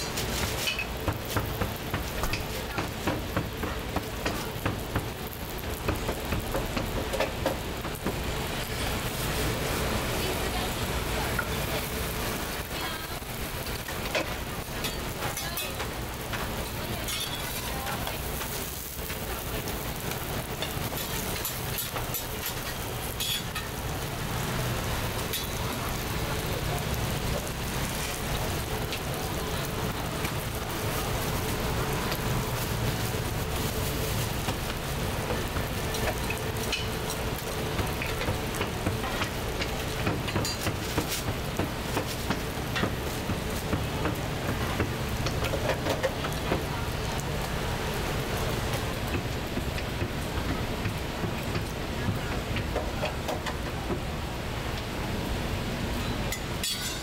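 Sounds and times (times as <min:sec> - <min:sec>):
oil crackling: 0:00.0 - 0:52.0
pancakes sizzling in hot oil: 0:00.0 - 0:54.2.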